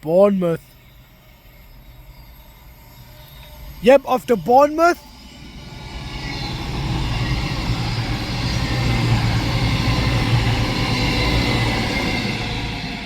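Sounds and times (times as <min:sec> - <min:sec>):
diesel train passing: 0:00.0 - 0:13.0.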